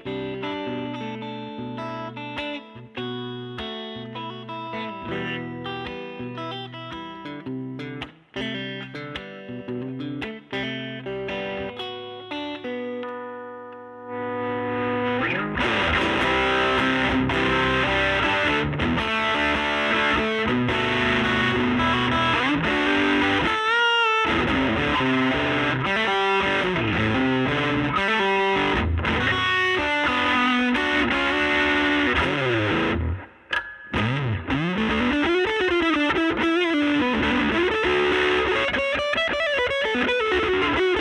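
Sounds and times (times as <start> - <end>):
overdriven electric guitar: 0.0 - 41.0.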